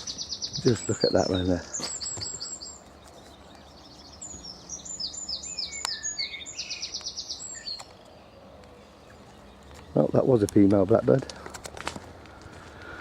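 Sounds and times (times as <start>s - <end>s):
songbird singing and trilling: 0.0s - 11.0s.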